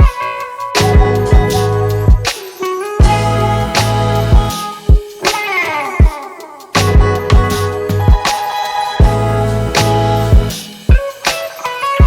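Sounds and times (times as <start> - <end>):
funk hip-hop music: 0.0 - 12.0.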